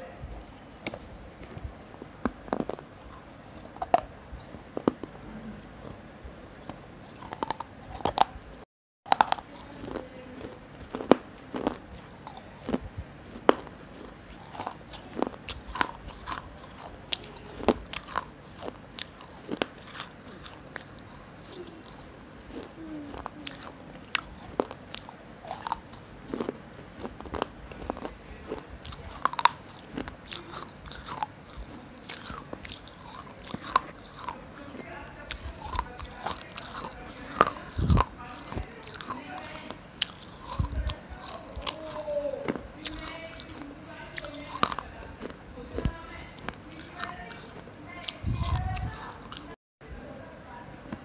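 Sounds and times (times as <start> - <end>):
chewing: 0.4 - 49.6
crunching clay cup: 0.8 - 6.0, 6.6 - 8.4, 9.1 - 49.5.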